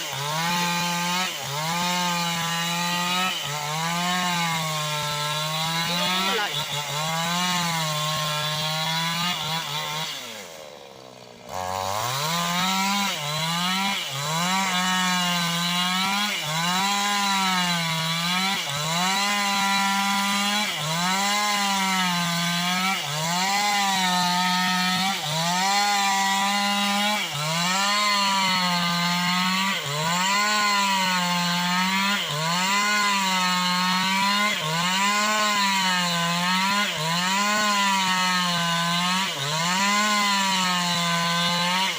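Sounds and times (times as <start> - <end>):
chainsaw ripping wood: 0.0 - 41.9.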